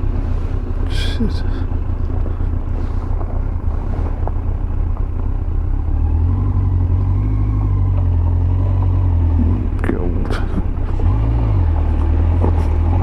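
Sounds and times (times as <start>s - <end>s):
motorcycle engine running: 0.0s - 13.0s
tyres on gravel road: 0.0s - 13.0s.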